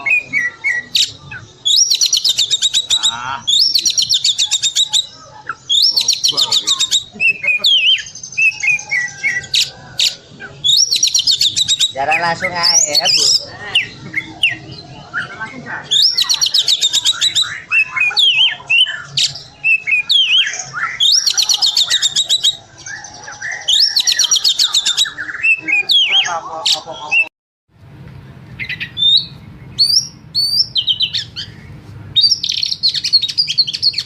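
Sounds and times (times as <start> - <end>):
bird trilling and whistling: 0.0 - 27.3, 28.6 - 34.0.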